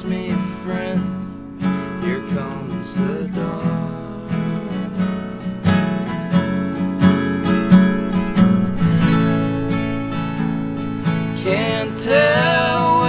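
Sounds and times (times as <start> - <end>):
acoustic guitars strumming: 0.0 - 13.0.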